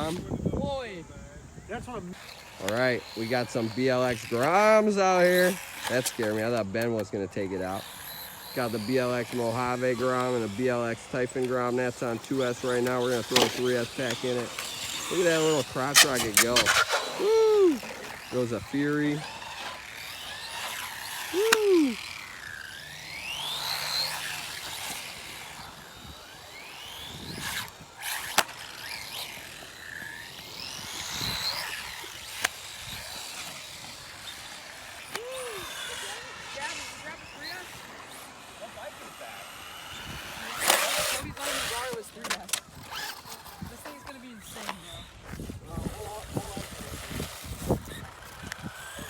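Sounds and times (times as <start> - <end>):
electric motor whining: 0.0 - 49.0.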